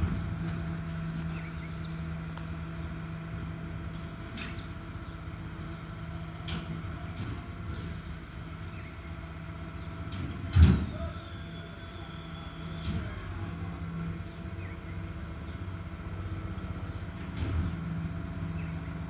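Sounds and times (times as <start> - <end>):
engine clicks and knocks: 0.0 - 14.7, 16.4 - 18.7
truck engine running: 0.0 - 19.0.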